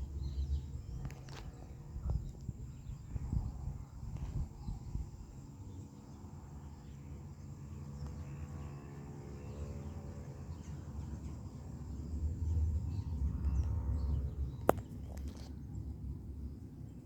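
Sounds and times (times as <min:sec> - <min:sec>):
distant jet engines roaring: 0:00.0 - 0:17.0.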